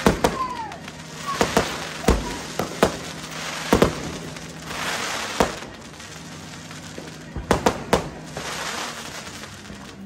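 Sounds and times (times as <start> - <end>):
fireworks bangs: 0.0 - 10.0
fireworks hiss: 0.0 - 10.0.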